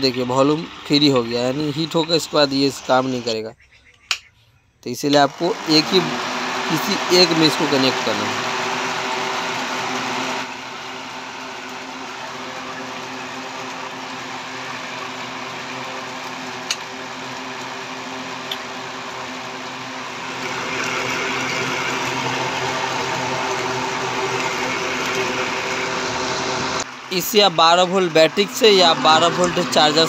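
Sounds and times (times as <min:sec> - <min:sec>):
fan motor humming whir: 0:00.0 - 0:03.4, 0:04.8 - 0:30.0.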